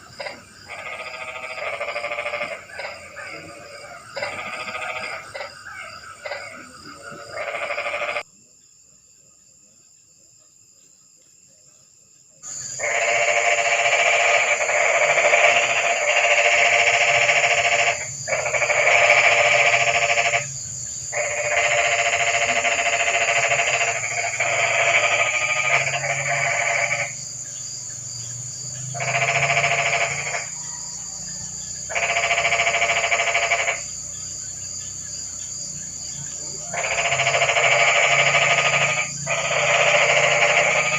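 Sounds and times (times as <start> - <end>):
frogs calling: 0.0 - 8.3, 12.4 - 40.9.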